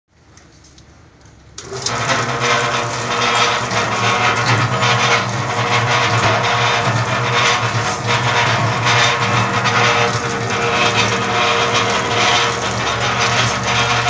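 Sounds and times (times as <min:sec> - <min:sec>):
mixer rattling: 0:01.6 - 0:14.0
mortar mixer motor humming: 0:01.6 - 0:14.0.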